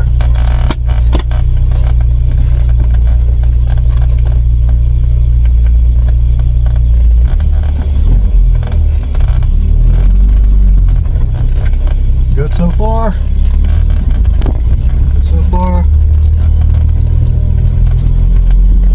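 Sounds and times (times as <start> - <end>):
car engine rumble: 0.0 - 18.9
road noise: 0.0 - 18.9.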